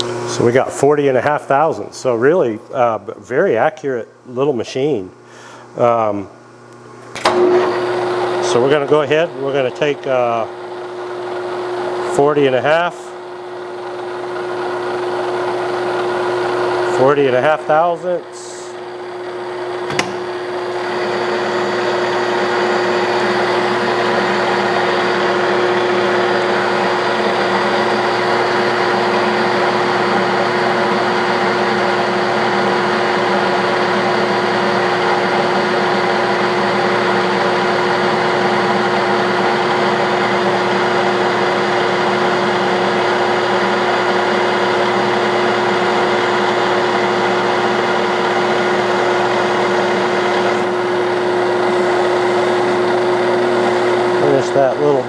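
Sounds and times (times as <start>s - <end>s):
lathe running with steady hum: 0.0s - 3.8s, 4.4s - 55.0s.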